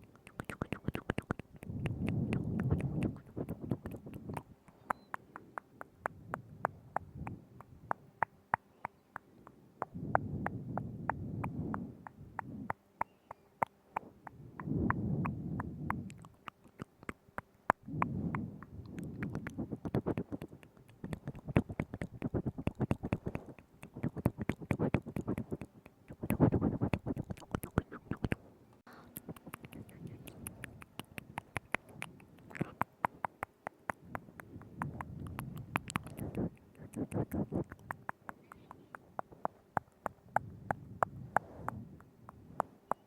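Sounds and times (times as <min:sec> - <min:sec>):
wet tongue and lip clicks: 0:00.0 - 0:43.0.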